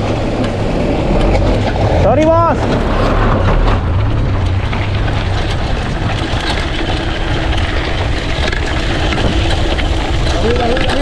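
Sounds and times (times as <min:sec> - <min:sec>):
tyres rolling on dirt track: 0:00.0 - 0:11.0
wind buffeting microphone: 0:00.0 - 0:11.0.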